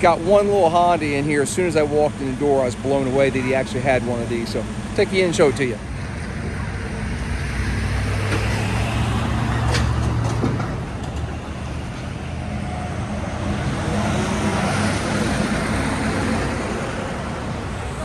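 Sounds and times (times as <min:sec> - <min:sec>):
vehicles passing: 0:00.0 - 0:18.0.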